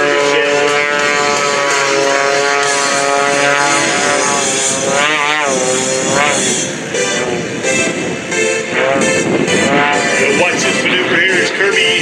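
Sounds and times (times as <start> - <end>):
propeller plane engine: 0.0 - 12.0.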